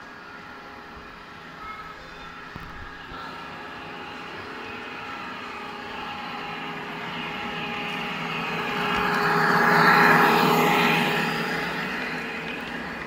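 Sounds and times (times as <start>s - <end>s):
model train motor whine: 0.0s - 13.0s
wheels rushing on rail: 0.0s - 13.0s.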